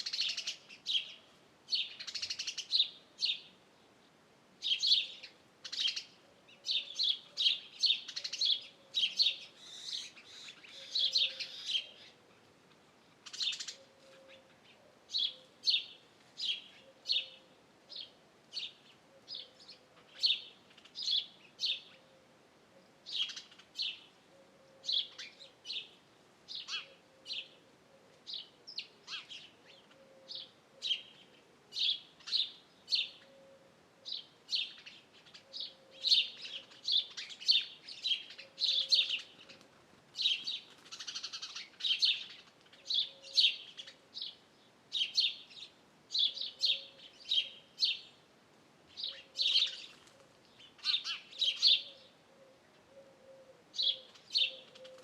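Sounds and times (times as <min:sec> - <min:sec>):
small birds chirping: 0:00.0 - 0:22.2, 0:22.8 - 0:27.6, 0:28.2 - 0:48.3, 0:48.9 - 0:55.0.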